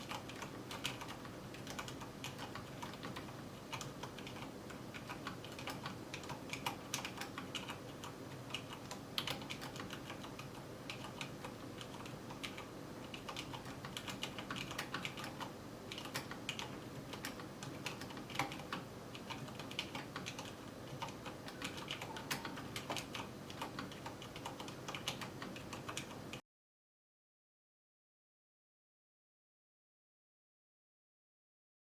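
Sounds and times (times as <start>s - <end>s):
mechanical keyboard typing: 0.0s - 26.4s.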